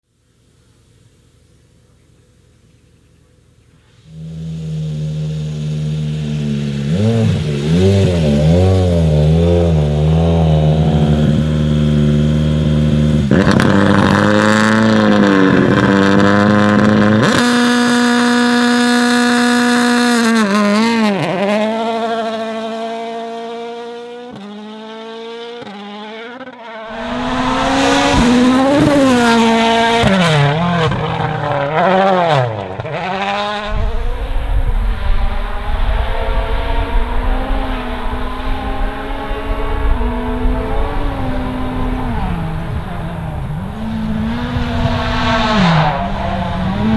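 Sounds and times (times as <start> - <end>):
rally car engine revving: 2.2 - 46.9.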